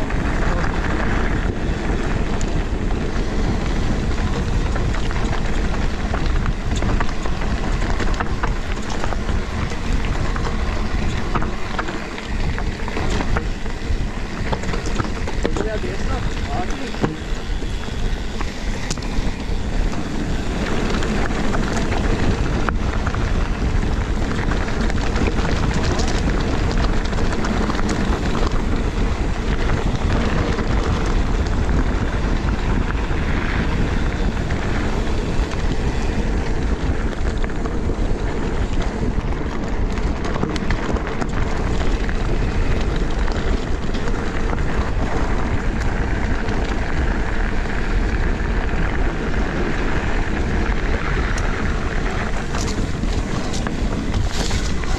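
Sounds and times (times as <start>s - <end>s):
bike knocks and rattles: 0.0s - 54.9s
bike tyre noise: 0.0s - 54.9s
wind on camera microphone: 0.0s - 54.9s.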